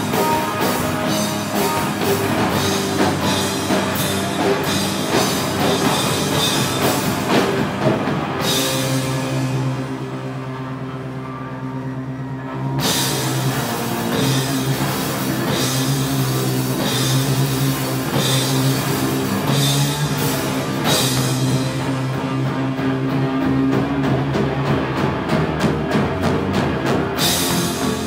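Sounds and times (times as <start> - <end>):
drum kit: 0.0 - 11.1, 12.2 - 28.0
heavy electric guitar: 0.0 - 28.0.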